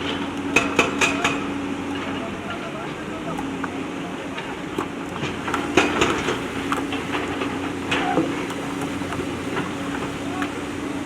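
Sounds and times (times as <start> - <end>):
bucket clanking against stones: 0.0 - 11.0
diesel engine running: 0.0 - 11.0.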